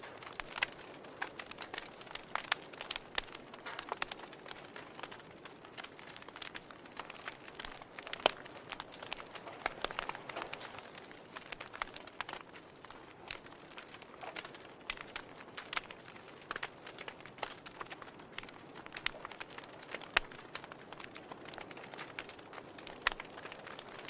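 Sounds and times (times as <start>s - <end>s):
fire popping and snapping: 0.0s - 24.0s
wood fire crackling: 0.0s - 24.0s.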